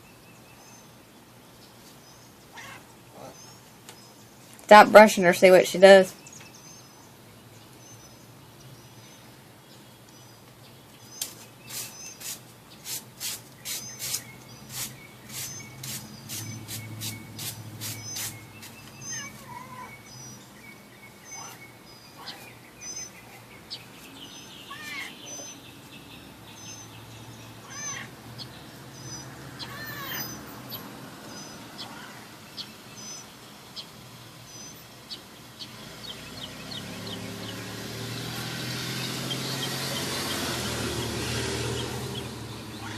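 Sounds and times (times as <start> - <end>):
sweeping bird calls: 0.0 - 42.9.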